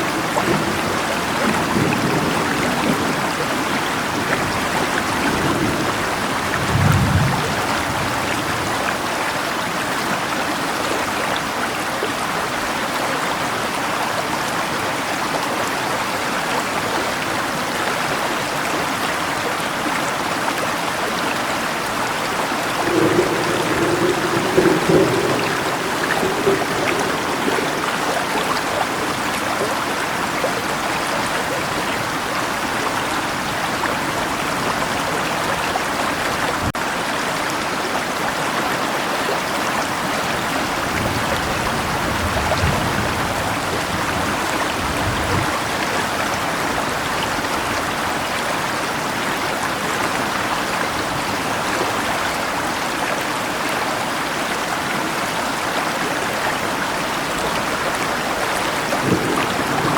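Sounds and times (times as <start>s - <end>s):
rain falling: 0.0s - 59.9s
river water running: 0.0s - 59.9s.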